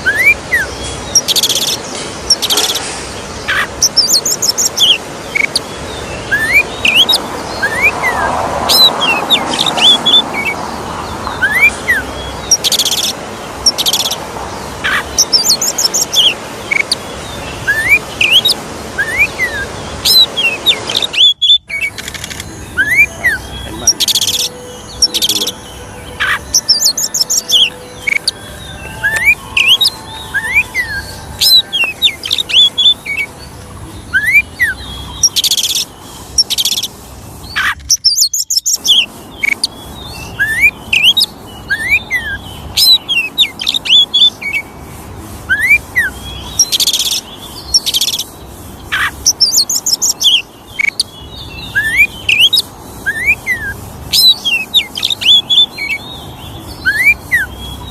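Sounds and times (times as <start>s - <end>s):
bird singing whistles and trills: 0.0s - 44.8s, 45.4s - 57.9s.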